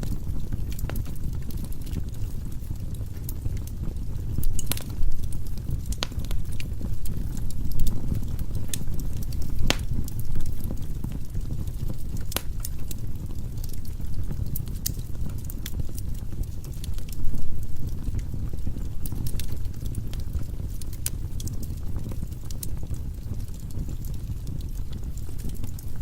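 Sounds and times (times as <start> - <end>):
crackles and pops from logs: 0.0 - 26.0
flames rumbling: 0.0 - 26.0.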